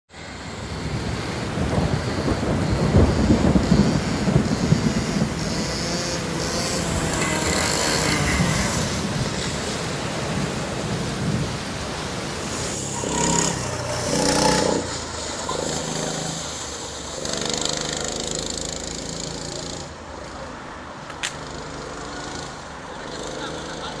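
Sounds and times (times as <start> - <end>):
steady rushing hiss: 0.1 - 20.4
kart engine passing: 0.2 - 20.0.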